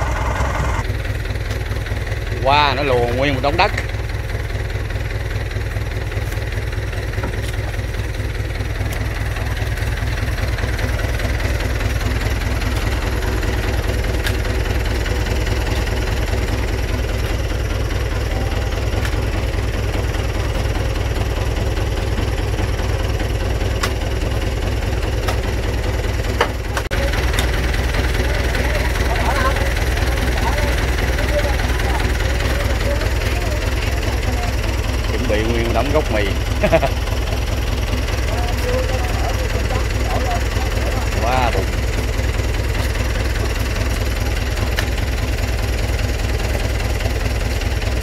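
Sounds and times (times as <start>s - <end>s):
tractor diesel engine throbbing: 0.0s - 48.0s.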